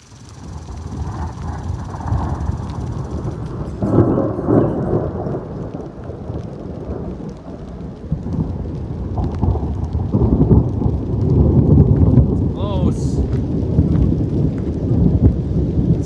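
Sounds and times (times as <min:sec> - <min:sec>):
rain falling: 0:00.0 - 0:16.0
thunder rumbling: 0:00.0 - 0:16.0.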